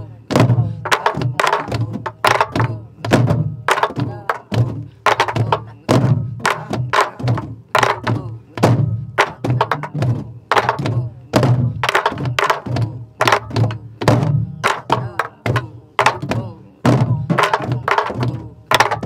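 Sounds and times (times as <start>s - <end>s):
low drum head booms: 0.0s - 19.0s.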